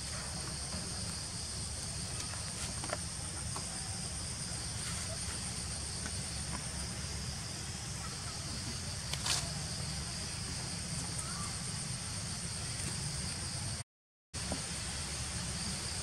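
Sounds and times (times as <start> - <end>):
insects droning: 0.0 - 13.8, 14.4 - 16.0.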